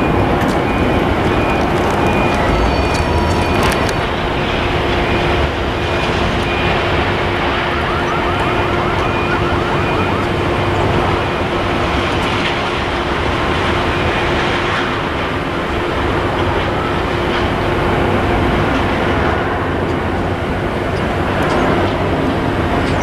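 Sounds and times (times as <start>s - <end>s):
railcars rumbling on rails: 0.0s - 23.0s.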